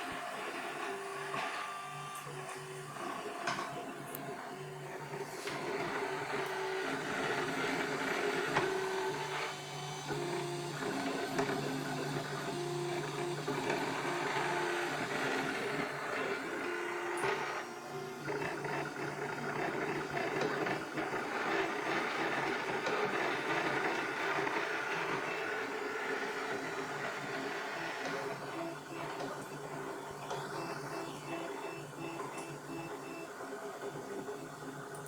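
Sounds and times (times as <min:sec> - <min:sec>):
printer motors whining: 0:00.0 - 0:35.0.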